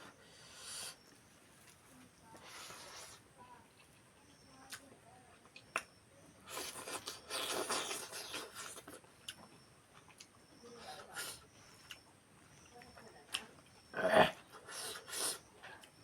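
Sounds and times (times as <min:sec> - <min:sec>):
noisy chewing: 0:00.0 - 0:16.0.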